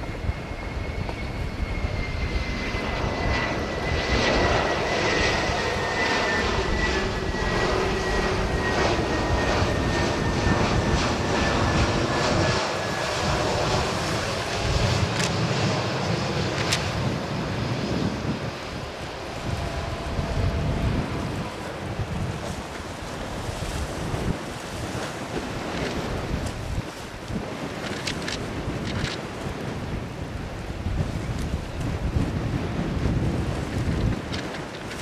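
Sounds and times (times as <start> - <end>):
high jet engine whine: 0.0 - 35.0
jet airliner roar overhead: 0.0 - 35.0.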